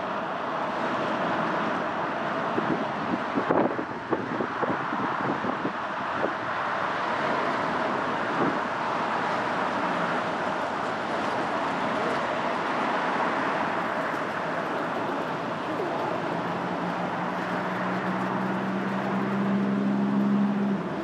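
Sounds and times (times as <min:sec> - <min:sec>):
passing traffic: 0:00.0 - 0:21.0
vehicle engine humming: 0:00.0 - 0:21.0.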